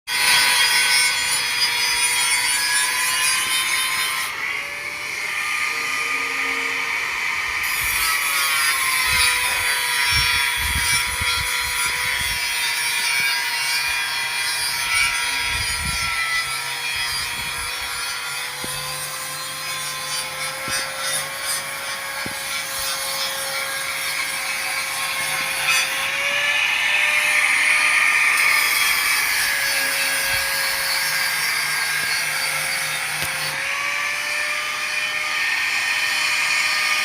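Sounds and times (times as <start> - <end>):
power tool rasping on steel: 0.1 - 37.0.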